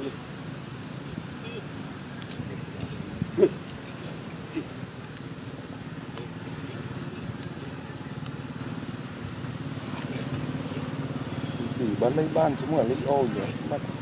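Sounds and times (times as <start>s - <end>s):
small engine humming: 0.0s - 14.0s.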